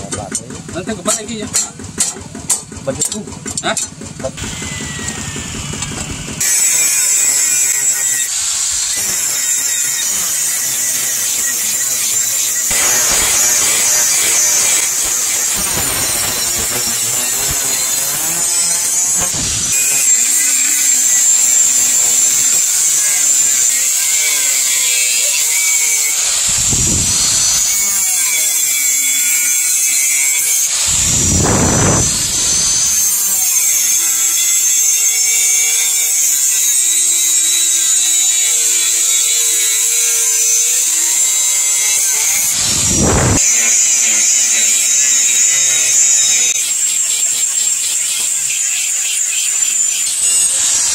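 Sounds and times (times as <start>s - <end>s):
angle grinder cutting steel: 0.1s - 50.9s.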